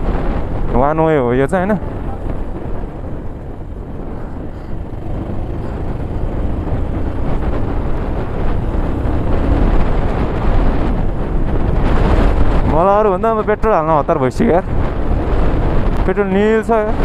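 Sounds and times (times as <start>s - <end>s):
motorcycle engine: 0.0s - 14.0s, 14.6s - 17.0s
wind on microphone: 0.0s - 17.0s.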